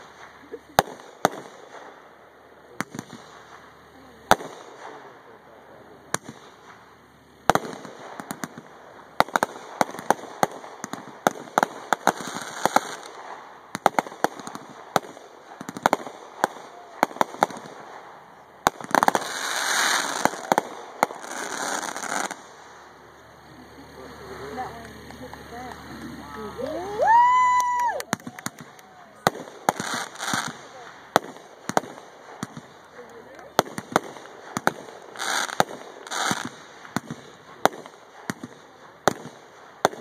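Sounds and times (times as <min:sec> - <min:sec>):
firework shells bursting with bangs: 0:00.0 - 0:40.0.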